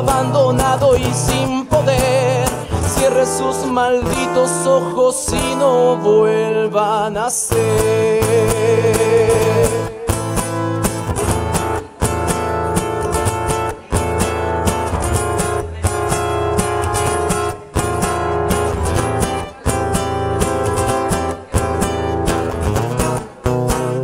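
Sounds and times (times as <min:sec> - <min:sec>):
guitar strumming chords: 0:00.0 - 0:24.0.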